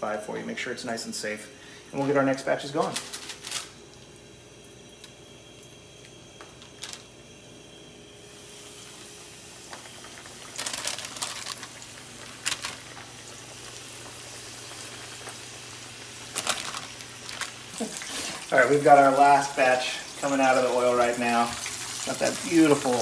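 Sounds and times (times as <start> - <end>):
crackling as food goes in oil: 1.9 - 23.0
oil bubbling and sizzling: 3.3 - 23.0.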